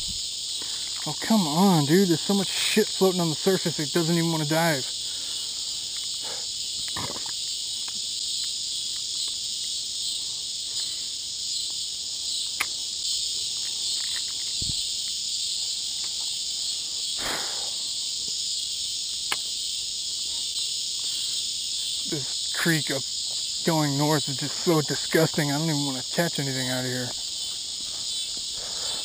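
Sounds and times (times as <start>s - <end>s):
cicada buzzing: 0.0s - 29.0s.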